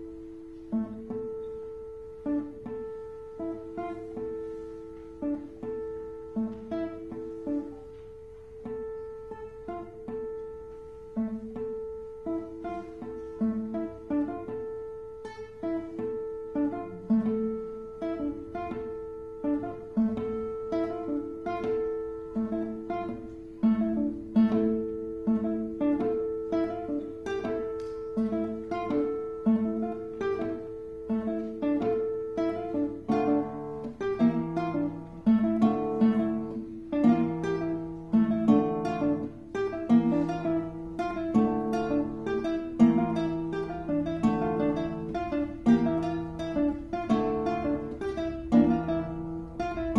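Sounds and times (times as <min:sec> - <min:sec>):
classical guitars playing: 0:00.0 - 0:49.9.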